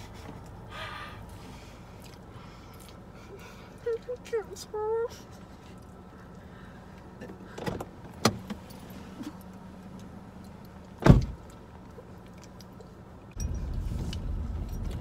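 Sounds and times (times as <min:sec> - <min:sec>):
low car rumble: 0:00.0 - 0:15.0.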